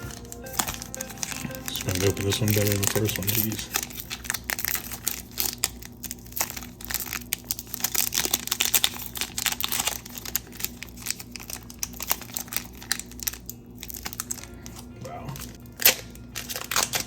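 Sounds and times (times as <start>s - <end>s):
wrapper tearing and crinkling: 0.0s - 17.0s.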